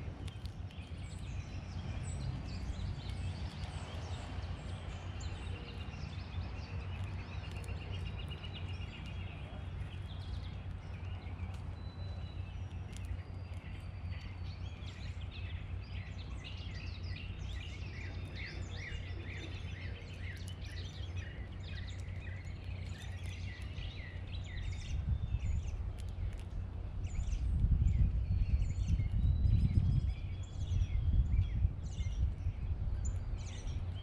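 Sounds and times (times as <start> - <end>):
low outdoor rumble: 0.0 - 34.0
songbirds chirping and singing: 0.0 - 34.0.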